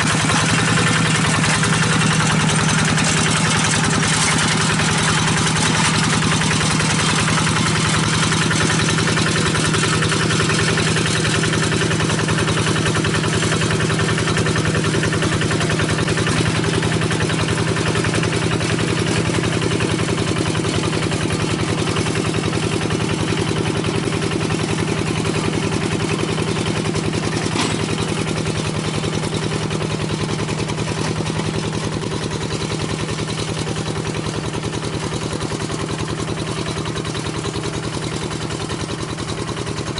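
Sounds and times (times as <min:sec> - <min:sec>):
diesel engine chugging at idle: 0:00.0 - 0:39.9.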